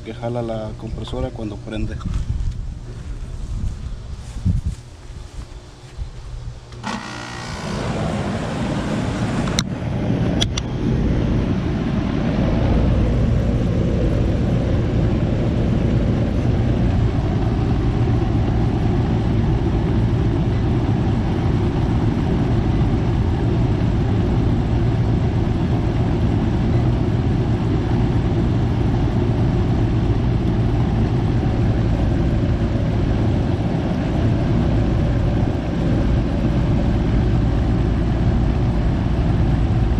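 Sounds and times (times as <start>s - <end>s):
air conditioner compressor kicking on: 0.0s - 39.9s
air conditioner running hum: 0.0s - 39.9s
condenser fan spinning: 0.0s - 39.9s.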